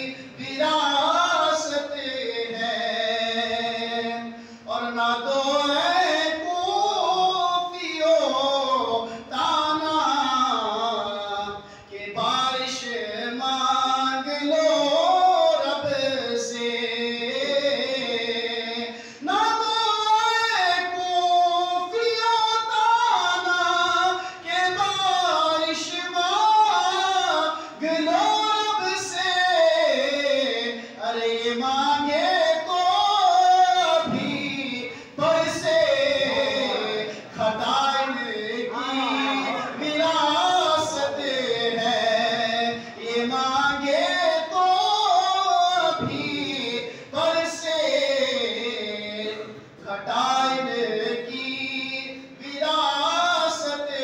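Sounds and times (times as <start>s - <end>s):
man singing unaccompanied: 0.0s - 54.0s.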